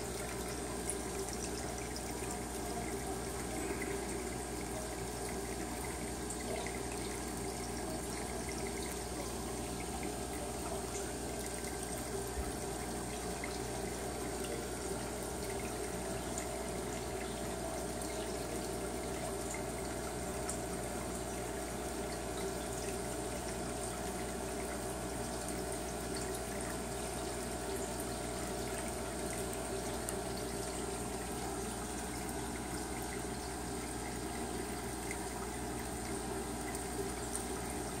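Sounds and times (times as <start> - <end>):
aquarium water bubbling: 0.0 - 38.0.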